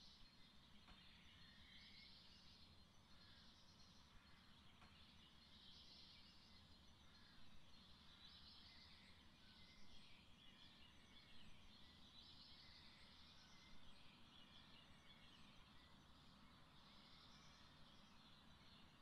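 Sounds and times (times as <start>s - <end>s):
distant songbirds chirping: 0.0s - 19.0s.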